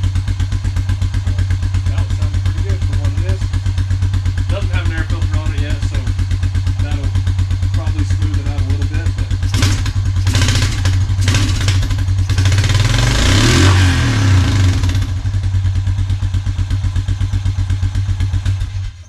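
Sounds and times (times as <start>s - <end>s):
quad engine revving and idling: 0.0s - 19.0s.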